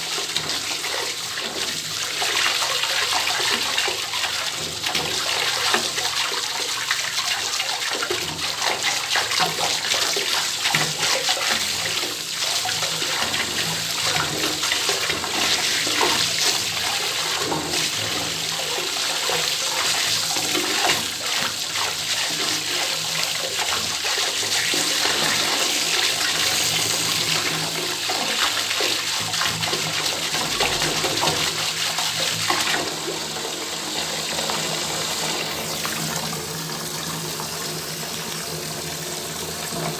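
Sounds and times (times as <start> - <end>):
tap running into bathtub: 0.0 - 39.9.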